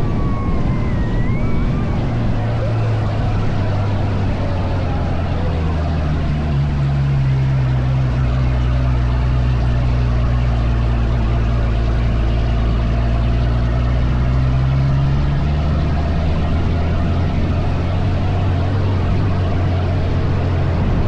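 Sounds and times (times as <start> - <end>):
dune buggy engine running: 0.0 - 21.0.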